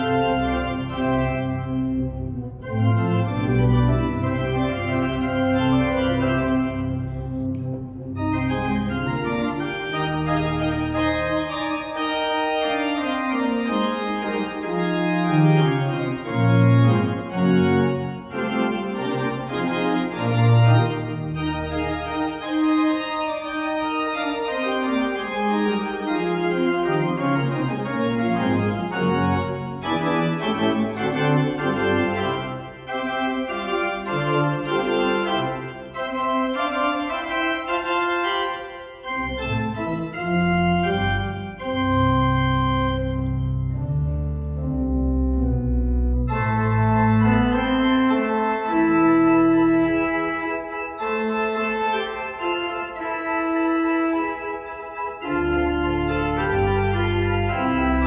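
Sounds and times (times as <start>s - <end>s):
pipe organ playing chords: 0.0s - 58.0s.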